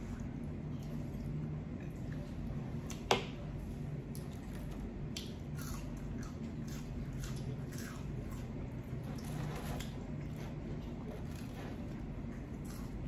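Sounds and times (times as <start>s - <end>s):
low steady hum: 0.0s - 13.0s
person chewing food: 0.0s - 13.0s.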